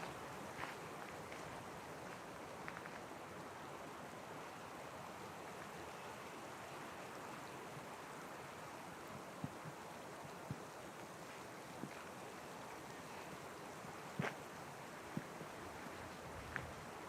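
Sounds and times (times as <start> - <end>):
faint forest ambience hiss: 0.0 - 17.0.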